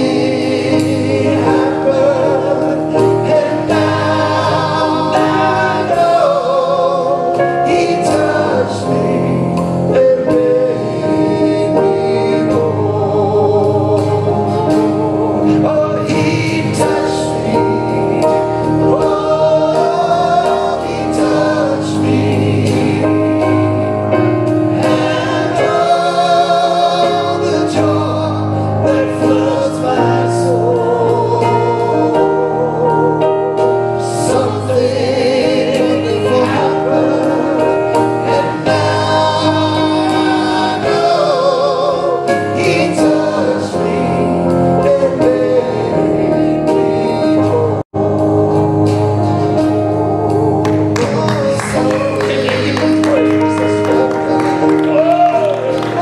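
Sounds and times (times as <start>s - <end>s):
keyboard and drum kit: 0.0s - 56.0s
voices singing gospel: 0.0s - 56.0s.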